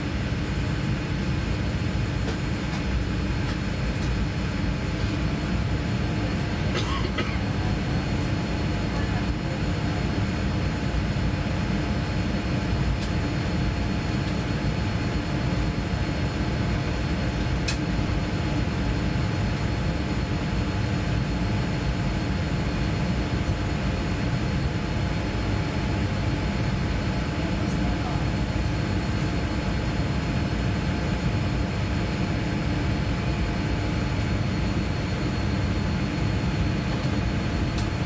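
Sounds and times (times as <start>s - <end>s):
aircraft cabin rumble: 0.2s - 38.0s.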